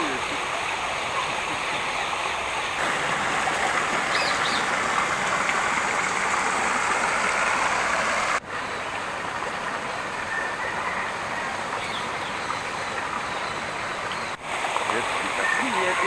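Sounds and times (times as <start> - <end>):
waterfall pouring over rocks: 0.0 - 16.0.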